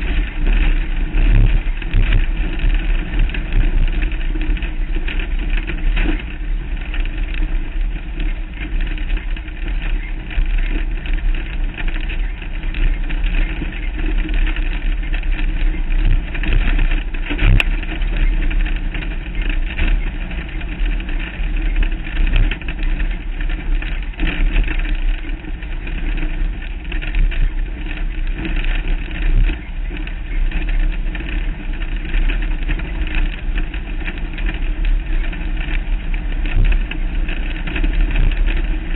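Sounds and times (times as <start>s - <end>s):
off-road vehicle engine rattling: 0.0s - 38.9s.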